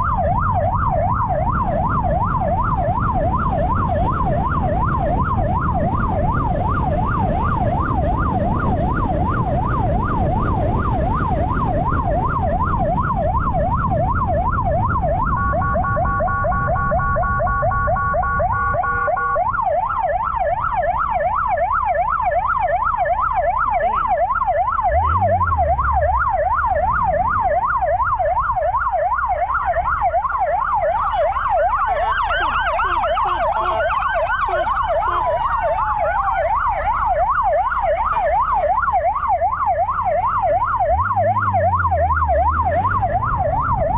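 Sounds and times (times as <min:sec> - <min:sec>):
rapid pulsing siren tone: 0:00.0 - 0:43.9
siren yelp: 0:00.0 - 0:43.9
wind and road rumble: 0:00.0 - 0:43.9.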